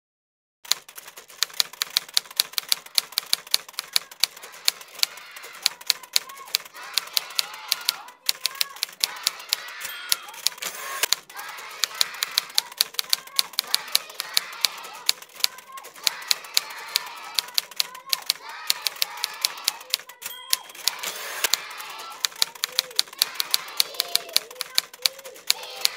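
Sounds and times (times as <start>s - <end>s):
typewriter keys clacking: 0.7s - 25.9s
murmur of indistinct voices: 2.8s - 25.9s.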